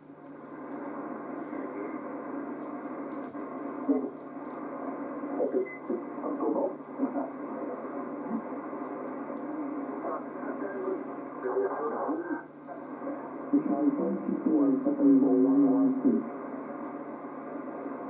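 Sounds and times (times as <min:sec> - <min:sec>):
faint broken radio voices: 0:00.0 - 0:18.0
radio static hiss and hum: 0:00.0 - 0:18.0.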